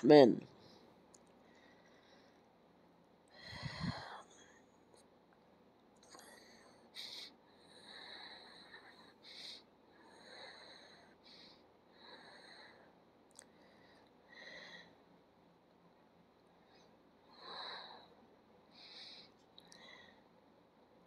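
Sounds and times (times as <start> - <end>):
faint breathing: 0.6 - 5.1, 6.0 - 15.2, 16.4 - 20.5.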